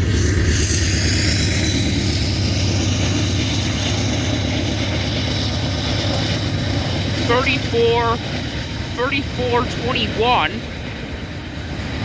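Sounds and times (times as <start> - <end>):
locomotive engine rumble: 0.0 - 12.0
wheel and rail noise: 0.0 - 12.0.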